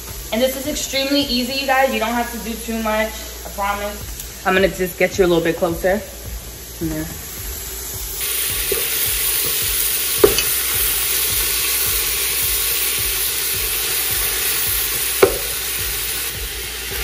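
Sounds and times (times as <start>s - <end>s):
ground beef sizzling: 0.0s - 17.0s.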